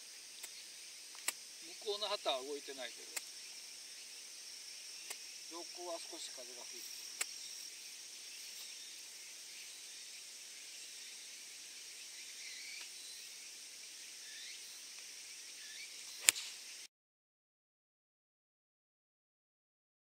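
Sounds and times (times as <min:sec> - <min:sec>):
insects chorus: 0:00.0 - 0:16.9
short insect chirps: 0:00.0 - 0:16.9.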